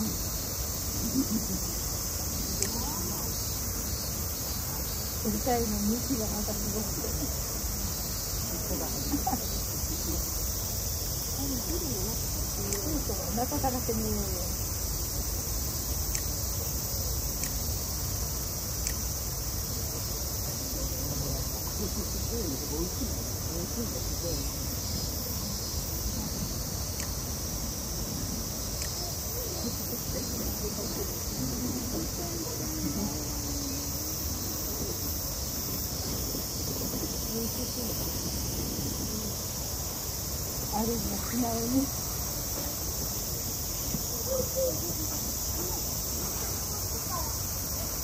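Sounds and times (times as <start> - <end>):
faint distant voices: 0.0 - 18.9, 19.6 - 48.0
cicadas droning: 0.0 - 48.0
insect chorus buzzing: 0.0 - 48.0.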